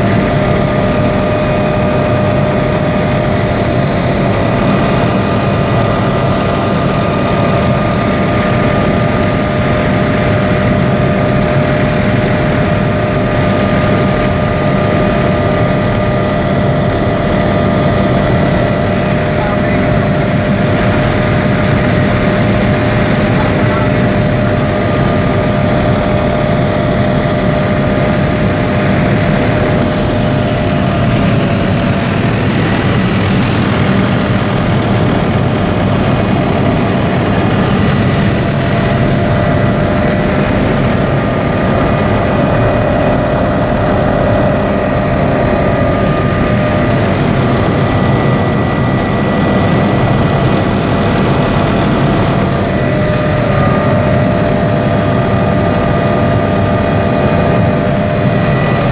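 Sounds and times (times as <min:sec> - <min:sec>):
helicopter engine drone: 0:00.0 - 0:58.9
high whines: 0:00.0 - 0:58.9.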